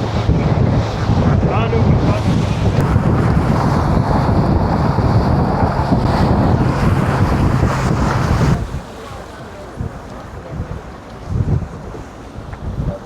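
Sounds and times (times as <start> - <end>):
boat engine: 0.0 - 13.0
water rushing under boat: 0.0 - 13.0
wind buffeting microphone: 0.0 - 13.0.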